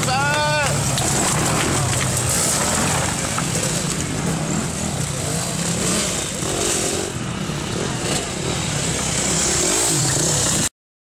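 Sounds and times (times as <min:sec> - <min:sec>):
dirt bike engines revving: 0:00.0 - 0:10.7.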